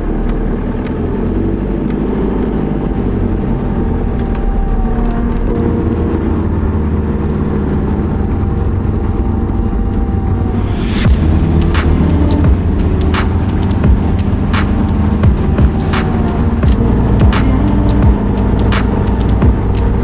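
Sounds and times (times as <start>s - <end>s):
van engine and road rumble: 0.0s - 20.0s.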